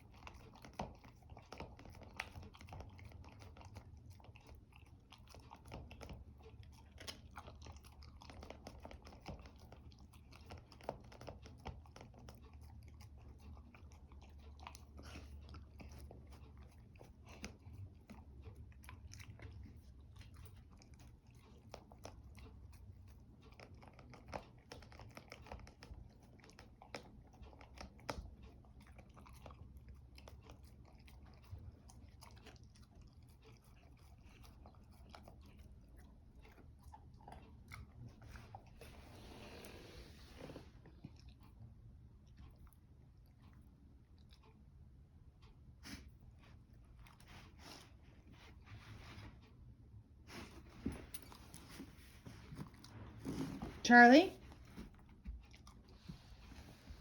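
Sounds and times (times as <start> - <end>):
dog chewing food: 0.0 - 57.0.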